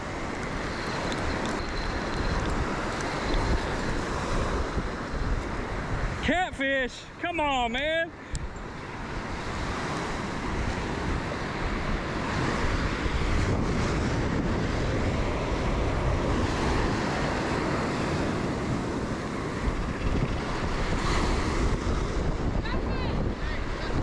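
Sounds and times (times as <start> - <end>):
wind buffeting microphone: 0.0 - 7.3, 8.1 - 24.0
small waves breaking on beach: 0.0 - 24.0.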